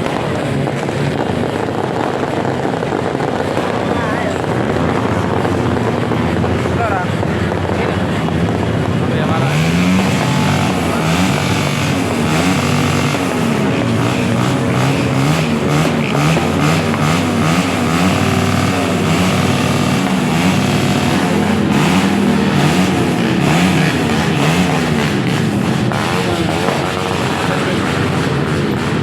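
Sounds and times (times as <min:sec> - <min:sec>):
vehicle engines revving: 0:00.0 - 0:29.0.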